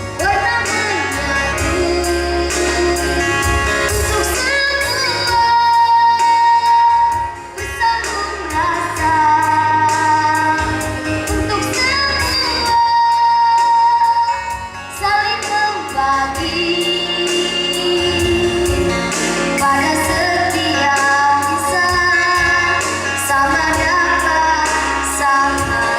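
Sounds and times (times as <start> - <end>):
backing music: 0.0 - 25.9.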